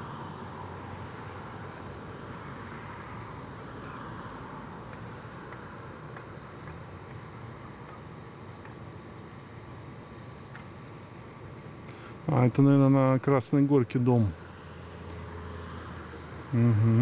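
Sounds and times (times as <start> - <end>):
distant road traffic hum: 0.0 - 17.0.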